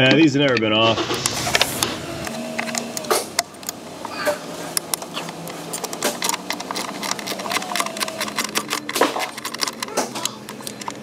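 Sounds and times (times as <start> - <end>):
hand ratchet clicking: 1.2 - 11.0.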